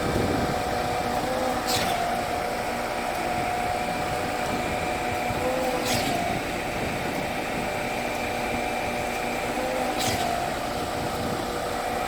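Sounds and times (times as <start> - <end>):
concrete pump whining: 0.0 - 12.0.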